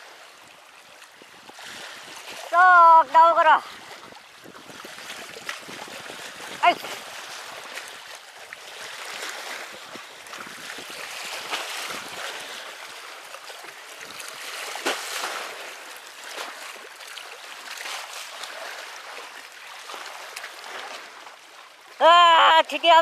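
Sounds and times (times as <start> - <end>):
sea water sloshing against rocks: 0.0 - 23.0.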